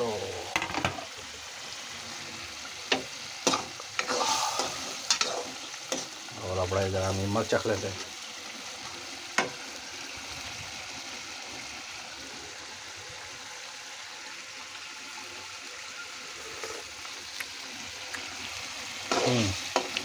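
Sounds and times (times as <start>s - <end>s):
curry sizzling and bubbling: 0.0s - 20.0s.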